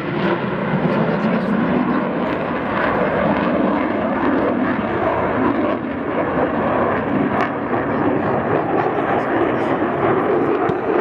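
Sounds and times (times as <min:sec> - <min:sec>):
jet engine rushing: 0:00.0 - 0:11.0.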